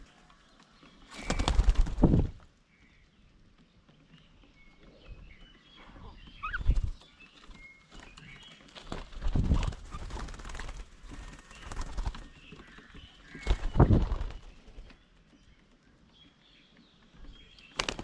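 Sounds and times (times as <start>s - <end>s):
birds chirping: 0.0s - 18.0s
faint outdoor background: 0.0s - 18.0s.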